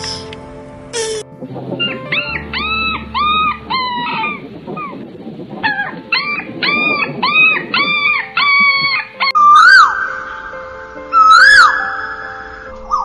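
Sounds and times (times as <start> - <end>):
whistled note: 1.0 - 13.0.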